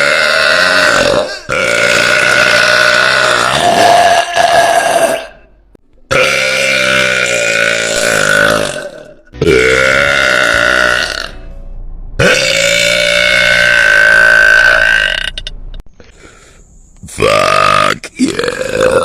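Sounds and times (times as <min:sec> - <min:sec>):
woman belching loudly: 0:00.0 - 0:05.4, 0:06.1 - 0:11.4, 0:12.2 - 0:15.4, 0:17.3 - 0:19.0.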